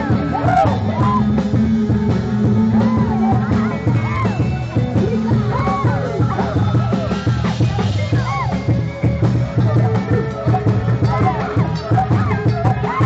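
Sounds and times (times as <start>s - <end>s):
heavy bass beat: 0.0s - 13.0s
live band music on speakers: 0.0s - 13.0s.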